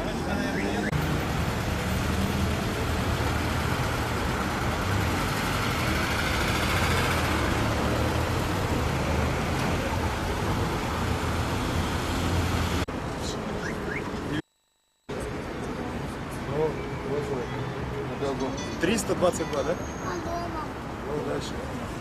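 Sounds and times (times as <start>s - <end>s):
vehicles driving by: 0.0s - 14.4s, 15.1s - 22.0s.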